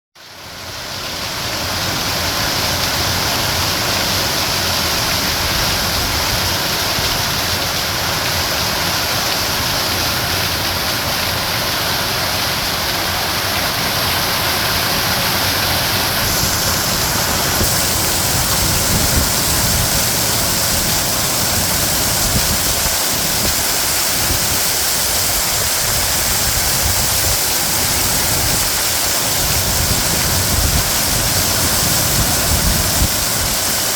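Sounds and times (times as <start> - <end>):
hail and rain pelting down: 1.7 - 33.9.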